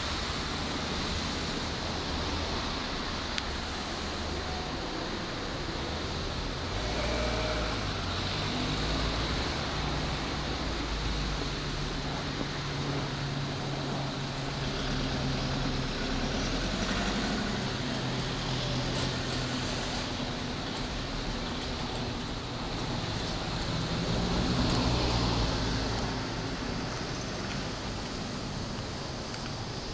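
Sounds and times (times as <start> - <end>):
electric train rumbling: 0.0 - 29.9.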